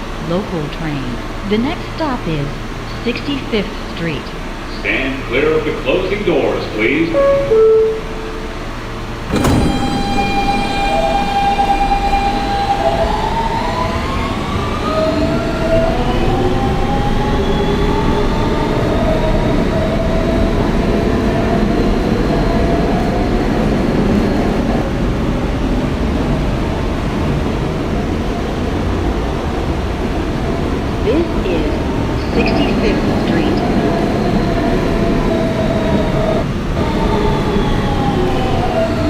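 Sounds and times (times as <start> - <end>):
subway traction motor whine: 0.0 - 39.0
wheels rumbling on track: 0.0 - 39.0.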